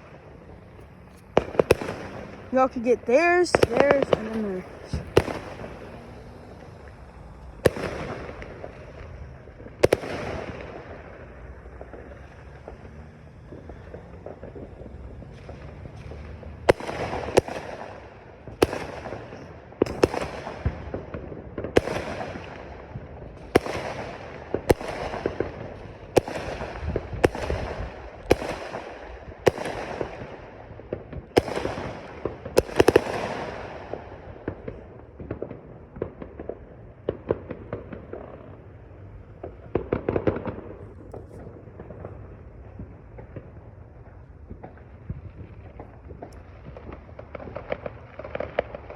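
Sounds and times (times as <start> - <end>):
fireworks bangs: 0.0 - 48.9
fireworks crackling: 0.0 - 48.9
fireworks pops: 0.0 - 48.9.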